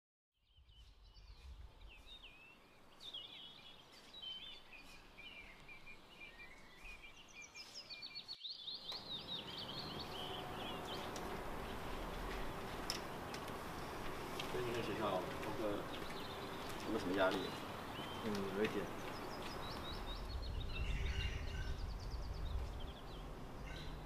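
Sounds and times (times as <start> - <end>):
small birds chirping: 0.4 - 24.0.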